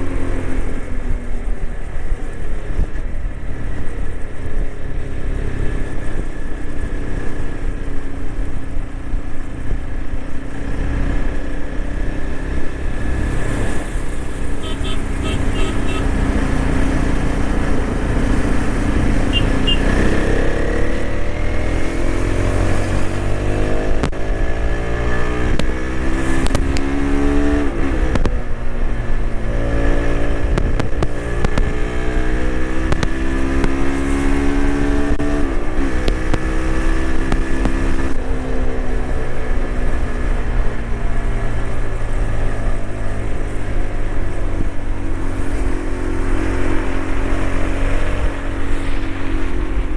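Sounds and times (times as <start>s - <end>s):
motorcycle engine accelerating: 0.0s - 49.9s
wind and road rumble: 0.0s - 49.9s.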